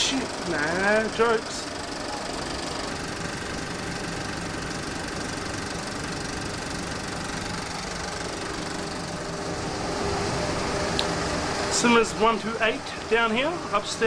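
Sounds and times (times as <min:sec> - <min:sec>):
faint steady whine: 0:00.0 - 0:14.0
film projectors running: 0:00.0 - 0:14.0.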